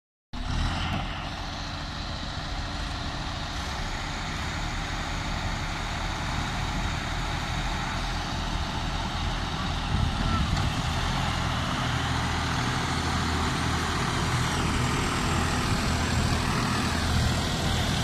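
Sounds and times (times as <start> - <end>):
tractor diesel engines rumbling: 0.4 - 18.0.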